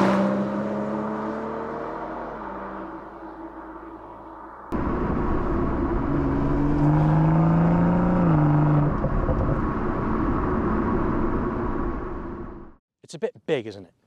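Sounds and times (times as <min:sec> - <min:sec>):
car engine accelerating hard: 0:00.0 - 0:12.7.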